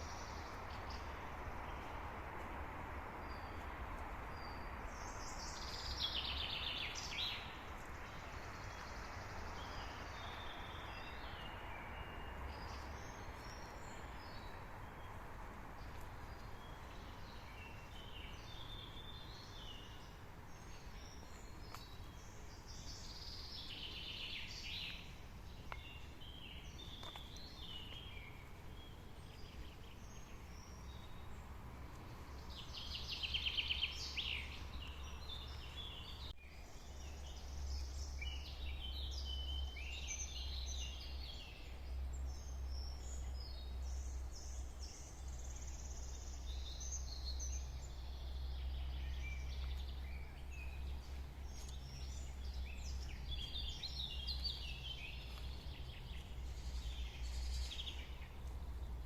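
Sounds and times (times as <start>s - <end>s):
songbirds singing and calling: 0.0s - 59.0s.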